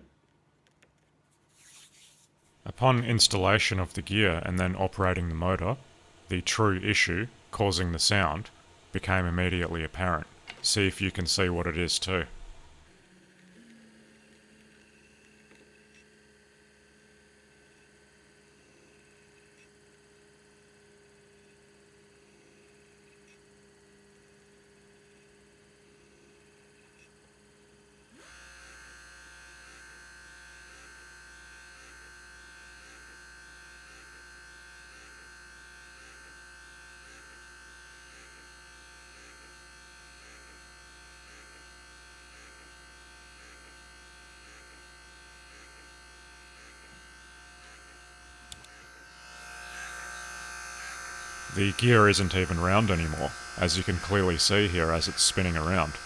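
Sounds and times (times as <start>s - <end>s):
electric motor humming and buzzing: 8.2s - 56.0s.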